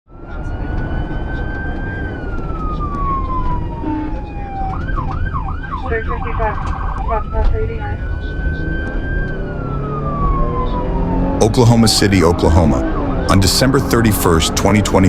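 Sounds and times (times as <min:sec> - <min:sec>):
engine and road rumble: 0:00.1 - 0:15.0
police car siren: 0:00.1 - 0:15.0.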